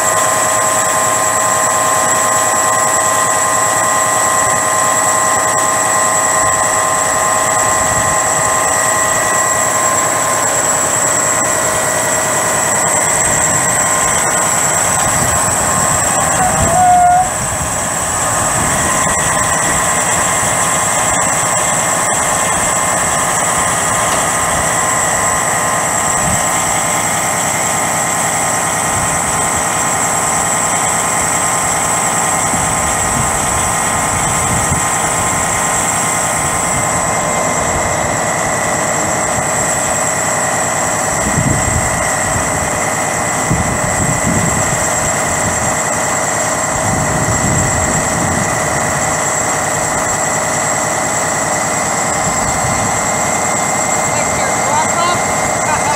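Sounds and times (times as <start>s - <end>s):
diesel truck engine running: 0.0s - 55.9s
hydraulic system whine: 0.0s - 55.9s.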